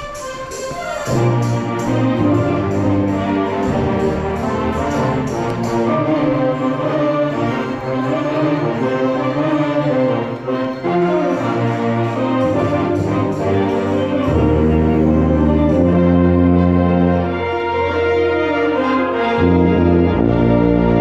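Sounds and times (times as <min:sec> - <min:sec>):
deep low brass notes: 0:00.0 - 0:21.0
wind ensemble playing brass music: 0:00.0 - 0:21.0.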